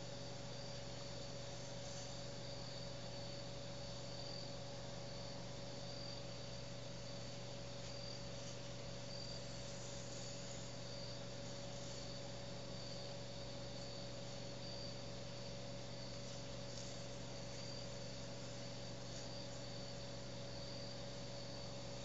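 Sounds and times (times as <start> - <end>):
constant low hum: 0.0 - 22.0
faint high insect chirps: 0.0 - 22.0
steady hiss: 0.0 - 22.0.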